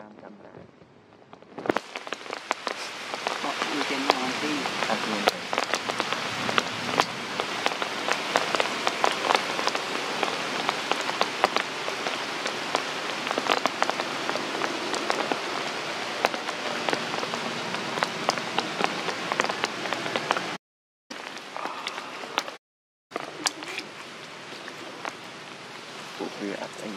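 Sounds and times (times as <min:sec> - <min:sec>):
raindrops striking close by: 0:01.3 - 0:26.9
steady rain: 0:01.6 - 0:26.9.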